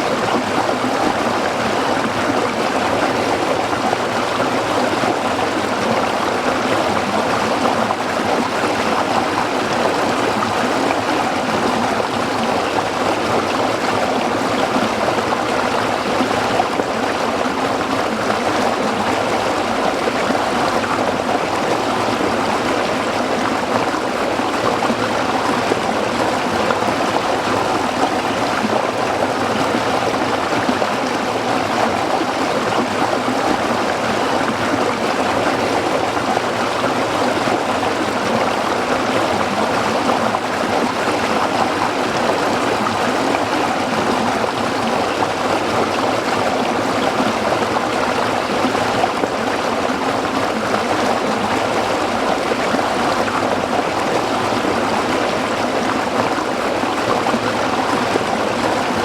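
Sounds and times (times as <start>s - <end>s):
stream splashing over rocks: 0.1s - 59.0s.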